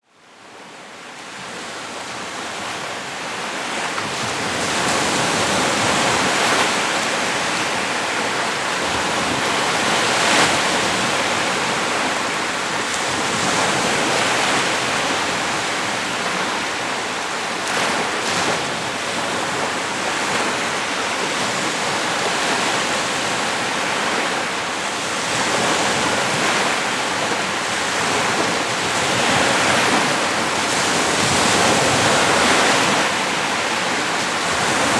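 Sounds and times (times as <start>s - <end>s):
waves washing onto beach: 0.4s - 34.9s.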